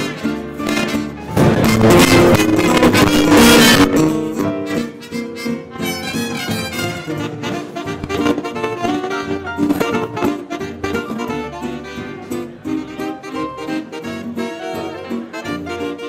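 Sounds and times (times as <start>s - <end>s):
big band swing orchestra playing: 0.0s - 16.0s.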